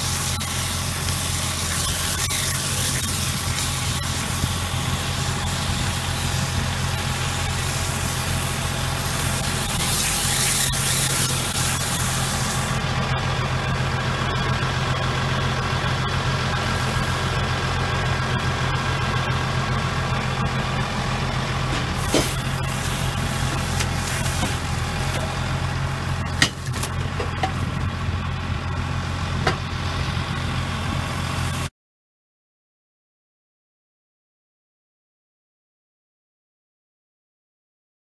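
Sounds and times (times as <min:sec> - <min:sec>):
tractor engine running: 0:00.0 - 0:31.7.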